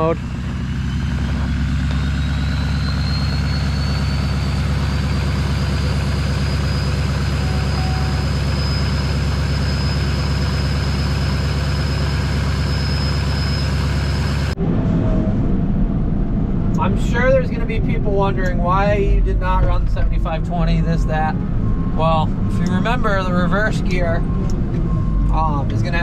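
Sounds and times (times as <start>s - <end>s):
high engine whine: 0.0s - 26.0s
truck engine running: 0.0s - 26.0s.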